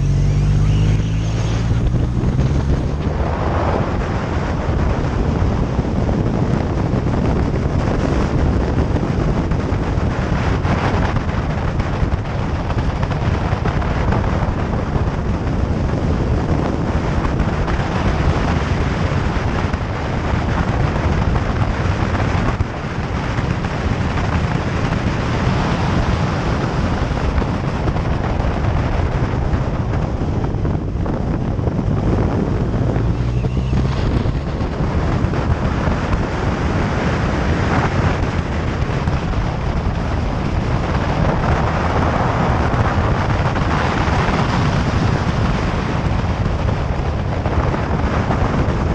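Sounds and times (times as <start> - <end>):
motorcycle engine hum: 0.0 - 48.9
wind rushing over microphone: 0.0 - 48.9.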